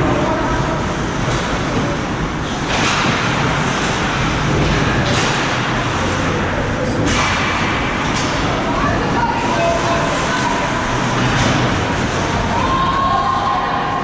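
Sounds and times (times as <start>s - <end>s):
ice hockey rink din: 0.0s - 14.0s.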